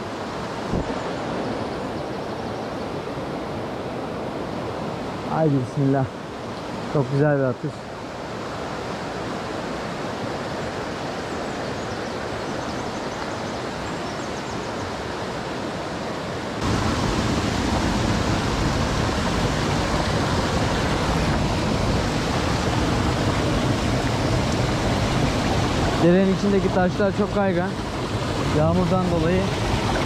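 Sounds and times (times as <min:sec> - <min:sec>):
creek water rushing over stones: 0:00.0 - 0:30.0.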